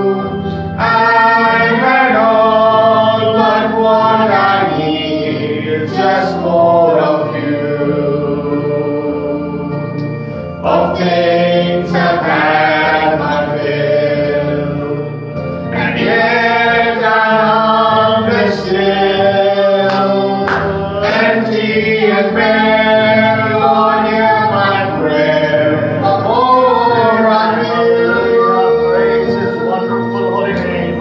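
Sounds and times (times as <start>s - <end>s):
man and boy singing gospel song: 0.0s - 9.8s, 10.6s - 31.0s
sustained musical backing: 0.0s - 31.0s.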